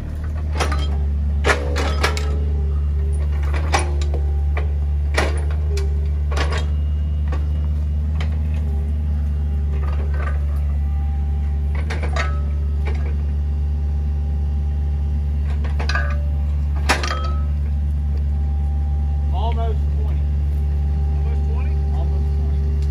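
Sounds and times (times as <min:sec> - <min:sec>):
excavator diesel engine running: 0:00.0 - 0:22.9
hydraulics: 0:00.0 - 0:22.9.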